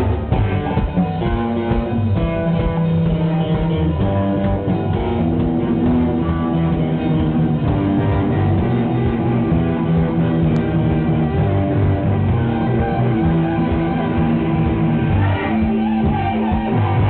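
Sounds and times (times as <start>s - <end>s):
bass: 0.0s - 17.0s
drums: 0.0s - 17.0s
electric guitar: 0.0s - 17.0s.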